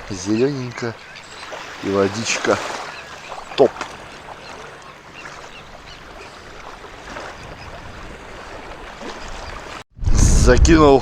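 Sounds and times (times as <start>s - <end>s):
small waves washing on shore: 0.0s - 9.9s.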